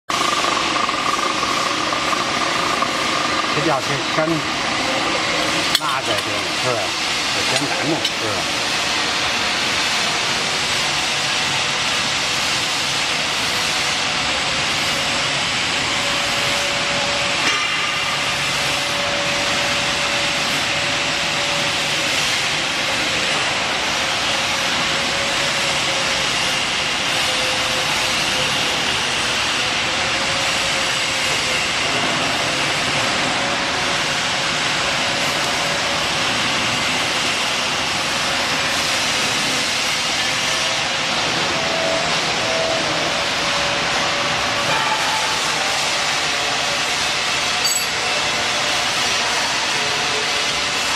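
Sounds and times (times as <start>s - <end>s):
cutting machine hum and hiss: 0.1s - 50.9s.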